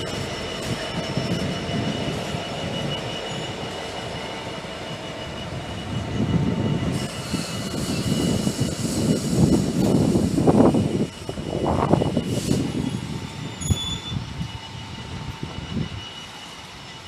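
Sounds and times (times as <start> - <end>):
high-pitched whining tones: 0.0 - 17.0
train rumble: 0.0 - 17.0.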